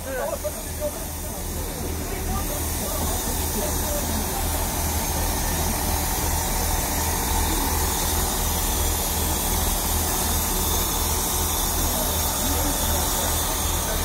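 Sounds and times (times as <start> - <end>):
diesel train engine idling: 0.0 - 14.0.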